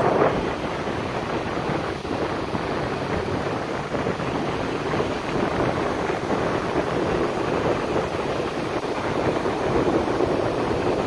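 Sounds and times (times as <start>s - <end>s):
breaking surf: 0.0s - 11.0s
wind buffeting the microphone: 0.0s - 11.0s.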